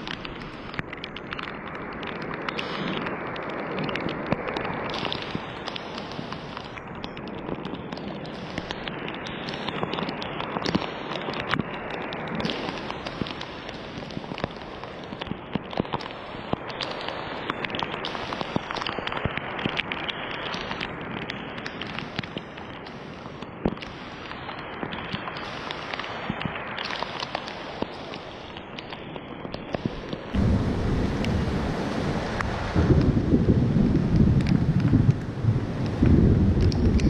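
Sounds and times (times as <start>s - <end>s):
sharp raindrop hits: 0.0s - 37.0s
steady rain: 0.0s - 37.0s.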